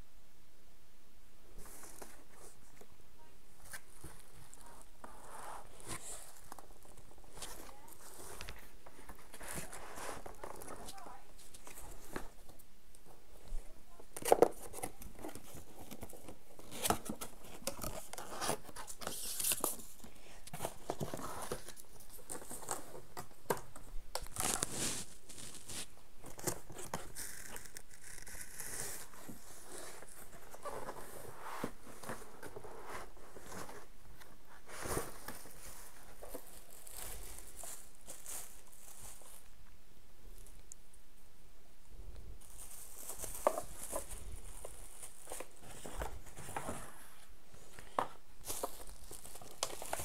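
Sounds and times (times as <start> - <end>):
packaging rustling and tearing: 3.6 - 12.6, 14.2 - 39.6, 42.4 - 50.0.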